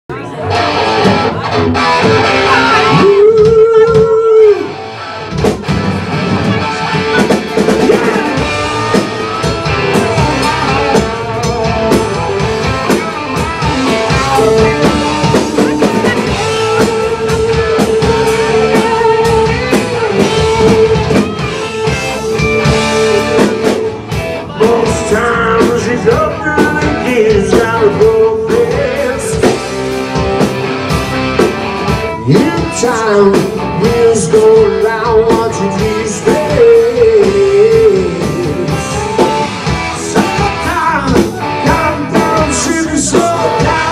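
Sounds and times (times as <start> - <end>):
guitar lead with wavering notes: 0.1 - 43.9
live rock band playing: 0.1 - 43.9.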